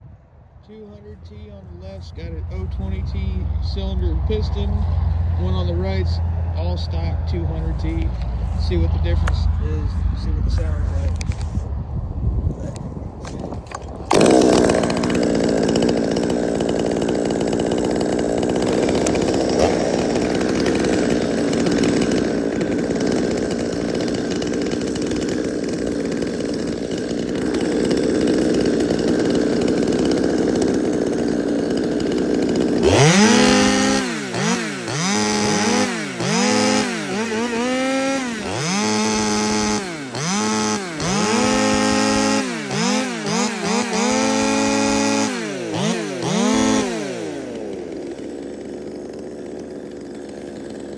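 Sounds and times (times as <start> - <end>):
chainsaw revving: 0.8 - 11.6, 12.7 - 50.9
chainsaw engines running: 0.8 - 50.9.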